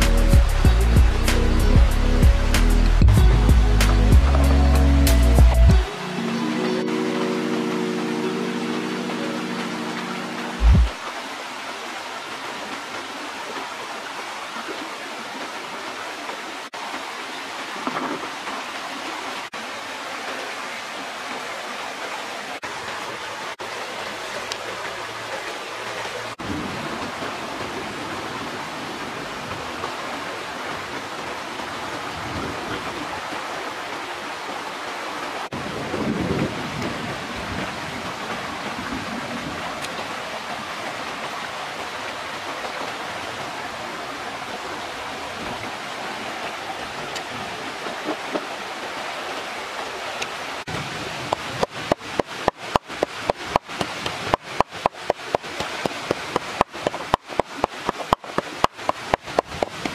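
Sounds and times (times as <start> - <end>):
stream water over rocks: 0.0 - 59.9.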